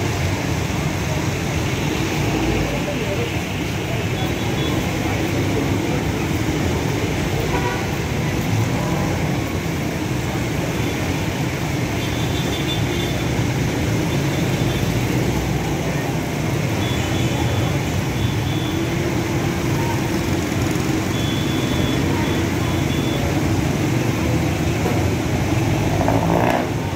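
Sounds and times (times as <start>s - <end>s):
traffic engines and tyres hum: 0.0s - 26.9s.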